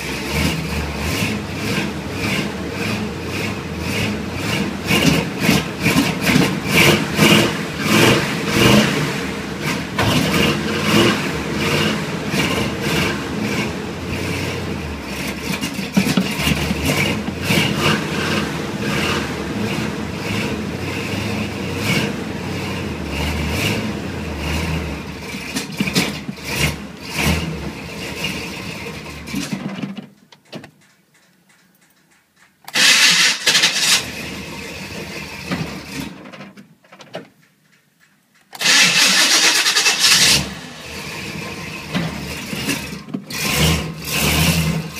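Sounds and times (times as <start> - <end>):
engine running roughly and sputtering: 0.0 - 44.9.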